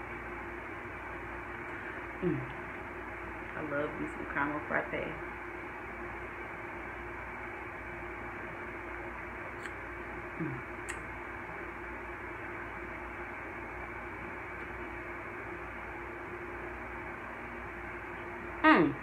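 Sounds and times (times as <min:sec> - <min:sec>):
air conditioner running: 0:00.0 - 0:19.0.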